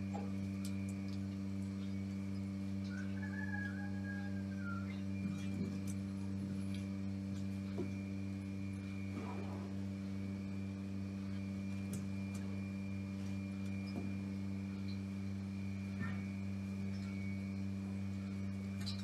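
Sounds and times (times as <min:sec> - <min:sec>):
low electrical hum: 0:00.0 - 0:19.0
thin high whine: 0:00.0 - 0:19.0.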